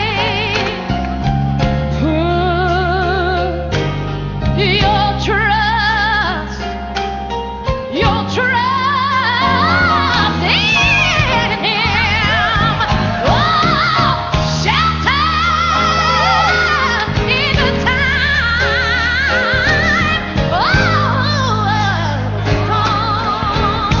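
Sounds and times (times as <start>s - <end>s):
bass and instrumental accompaniment: 0.0s - 24.0s.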